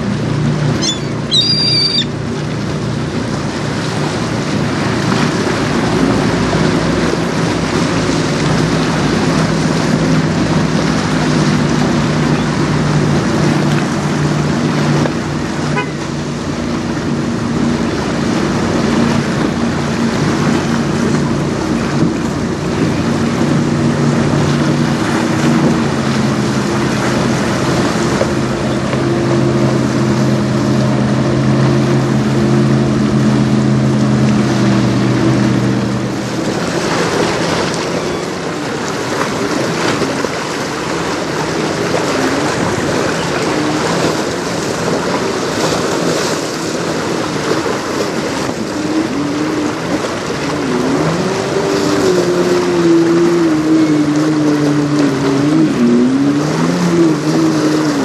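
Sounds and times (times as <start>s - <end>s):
boat engine humming: 0.0s - 58.0s
water noise: 0.0s - 58.0s
wavering engine hum: 0.0s - 58.0s
wind: 0.0s - 58.0s.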